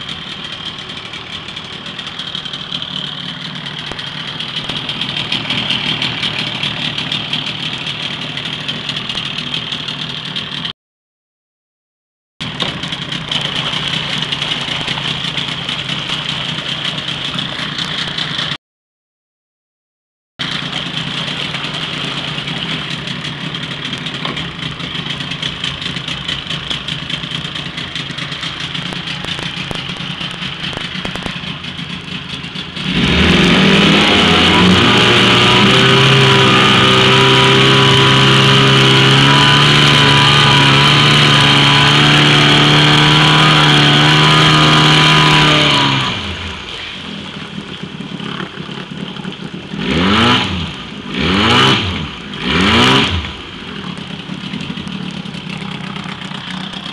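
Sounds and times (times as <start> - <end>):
outboard motor running: 0.0 - 10.7, 12.4 - 18.6, 20.4 - 56.9.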